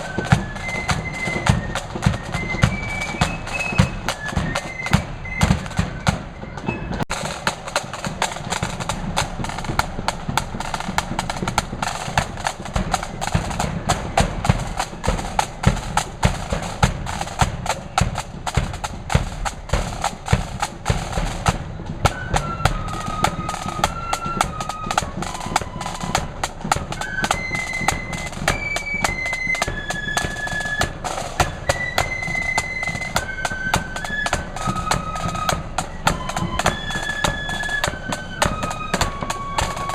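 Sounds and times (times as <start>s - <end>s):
flutes playing melody: 0.0s - 39.9s
marching drums: 0.0s - 39.9s.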